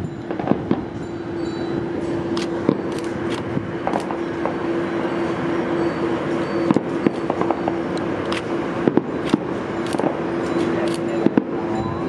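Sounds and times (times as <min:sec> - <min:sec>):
boat engine hum: 0:00.0 - 0:12.0
distant fireworks popping: 0:00.2 - 0:12.0.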